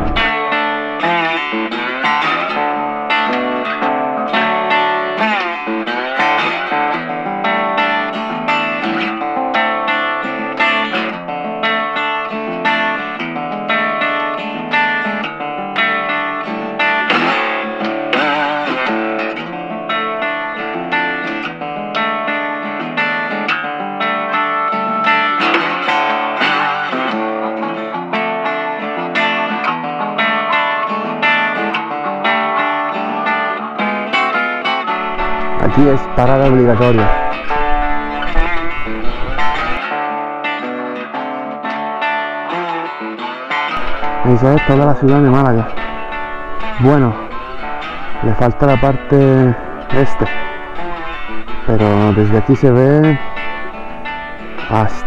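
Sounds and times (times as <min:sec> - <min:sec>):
plucked guitar music: 0:00.0 - 0:55.0.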